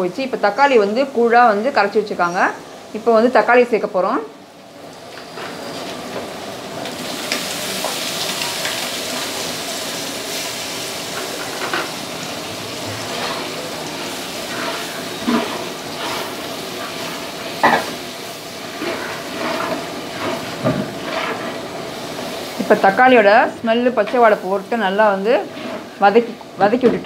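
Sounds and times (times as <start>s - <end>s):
sauce sizzling in hot oil: 0.0s - 26.9s.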